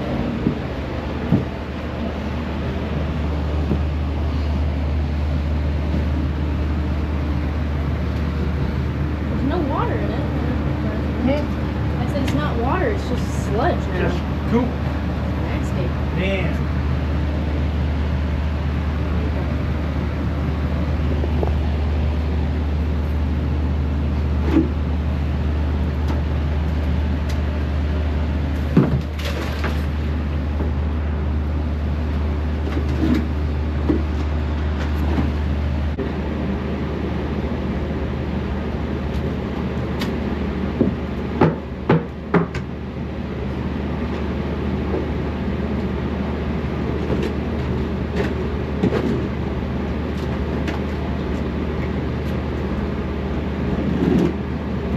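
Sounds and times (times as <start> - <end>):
low machine hum: 0.0 - 54.9.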